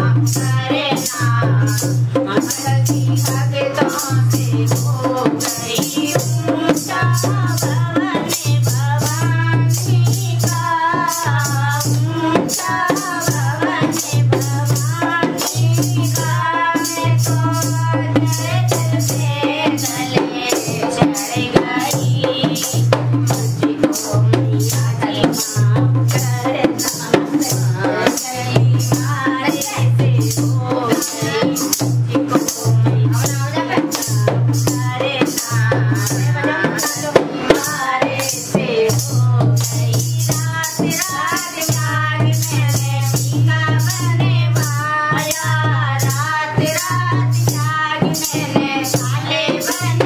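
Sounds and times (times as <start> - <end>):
hand drum beat: 0.0 - 50.0
women singing together: 0.0 - 50.0.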